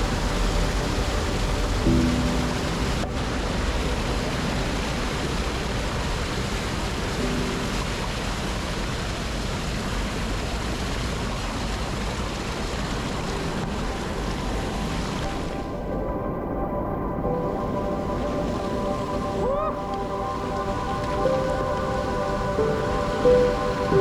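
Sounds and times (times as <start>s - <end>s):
rushing water roar: 0.0s - 24.0s.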